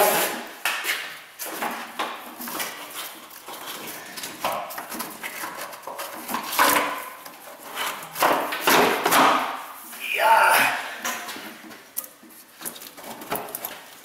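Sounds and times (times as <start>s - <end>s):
hoses rustling and scraping: 0.0s - 8.6s, 10.9s - 14.0s.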